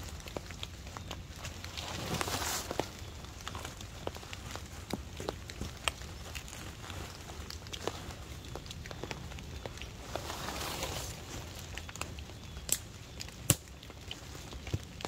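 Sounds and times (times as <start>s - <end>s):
wet leaves crunching underfoot: 0.0s - 15.0s.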